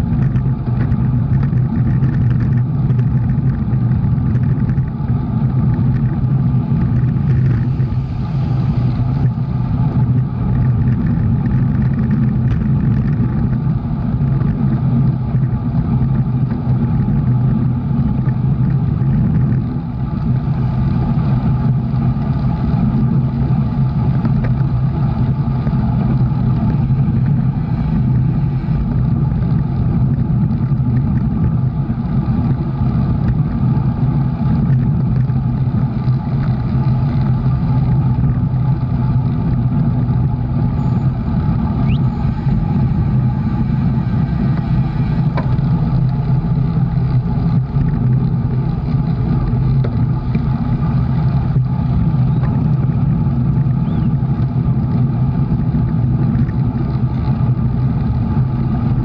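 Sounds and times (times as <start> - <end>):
vehicle engine drone: 0.0 - 59.0.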